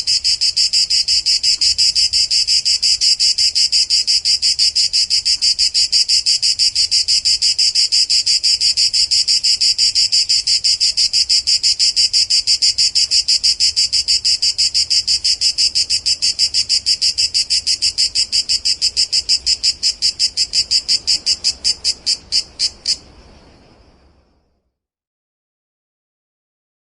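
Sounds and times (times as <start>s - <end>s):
cicada singing: 0.0s - 23.1s.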